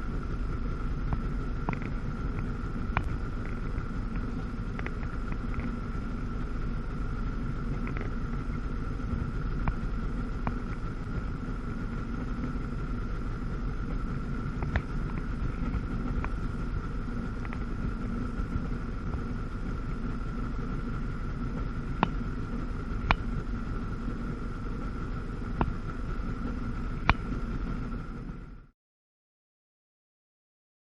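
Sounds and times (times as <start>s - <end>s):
jet ski engine running: 0.0s - 28.7s.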